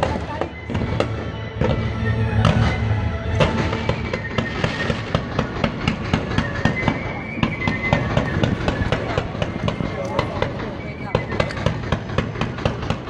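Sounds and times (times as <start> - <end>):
fireworks bangs and crackles: 0.0 - 13.0
fireworks whistling: 0.0 - 13.0.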